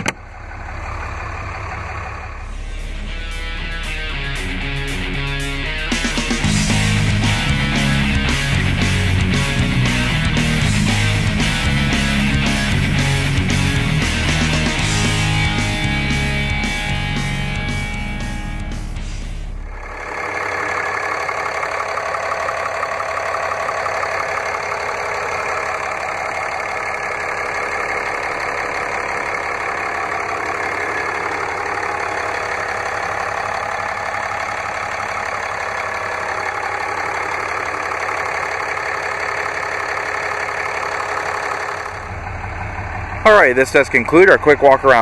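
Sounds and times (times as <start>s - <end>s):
diesel engine idling: 0.0s - 45.0s.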